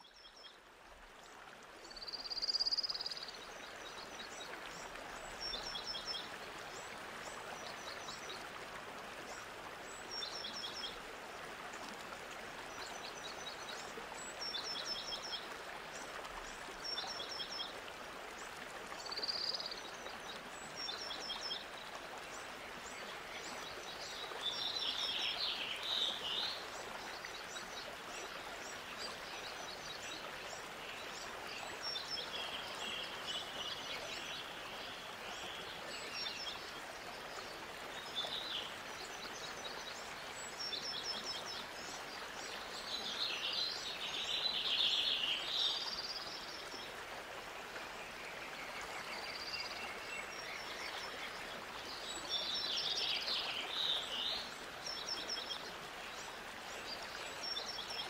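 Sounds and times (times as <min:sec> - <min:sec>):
steady outdoor hiss: 0:00.0 - 0:58.0.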